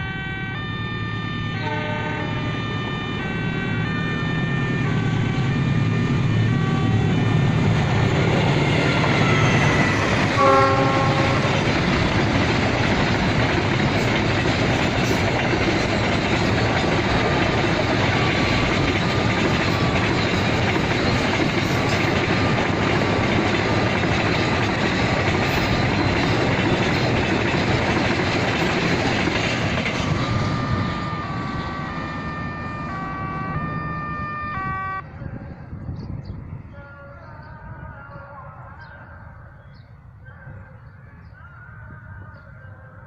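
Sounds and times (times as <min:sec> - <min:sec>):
freight train rumbling past: 0:00.0 - 0:38.8.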